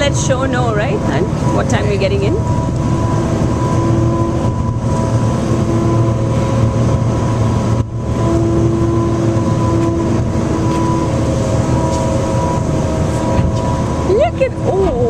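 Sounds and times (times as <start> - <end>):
constant rushing noise: 0.0 - 15.0
ferry engine hum: 0.0 - 15.0
held steady tones: 0.0 - 15.0.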